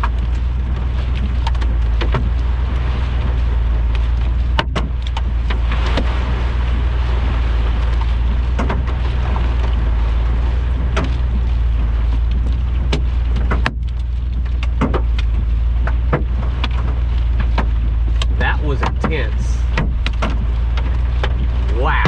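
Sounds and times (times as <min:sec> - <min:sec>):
low rumble: 0:00.0 - 0:22.0
rain and hail on vehicle: 0:00.0 - 0:22.0.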